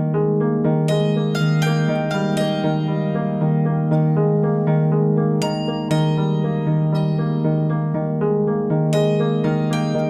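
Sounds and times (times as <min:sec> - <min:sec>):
plucked harp-like melody: 0:00.6 - 0:10.0.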